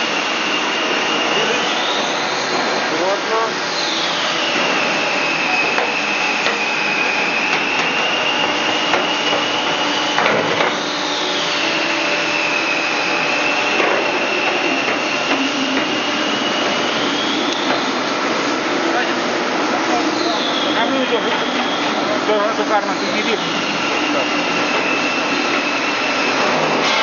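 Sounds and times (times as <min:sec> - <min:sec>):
machinery whining: 0:00.0 - 0:27.0.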